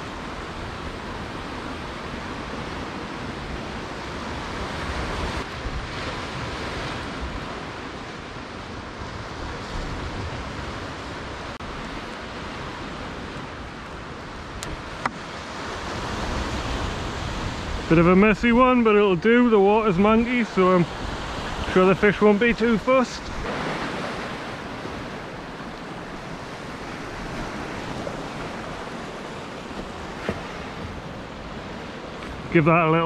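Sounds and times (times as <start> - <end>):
sea surf: 0.0 - 33.0
wind: 0.0 - 33.0.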